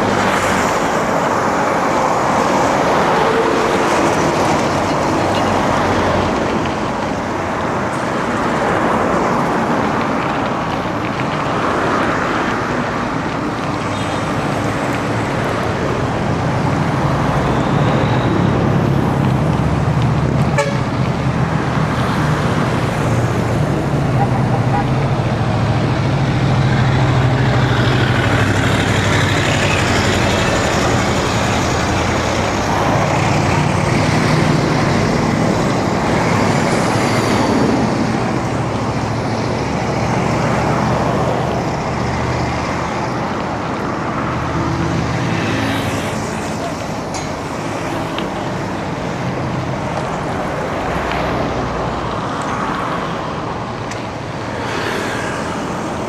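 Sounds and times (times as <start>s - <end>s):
road noise: 0.0s - 56.0s
vehicle engines passing: 0.0s - 56.0s.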